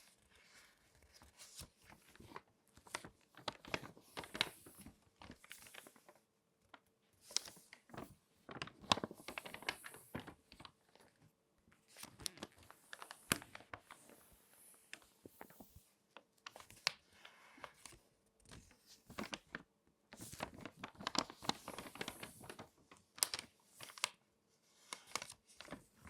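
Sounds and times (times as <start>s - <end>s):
glossy paper crinkling: 0.2s - 24.2s, 24.8s - 26.0s.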